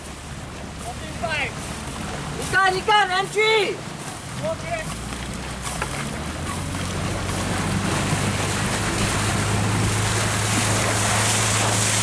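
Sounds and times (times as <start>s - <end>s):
motorboat engine running: 0.0s - 12.0s
water rushing: 0.0s - 12.0s
wind: 0.0s - 12.0s.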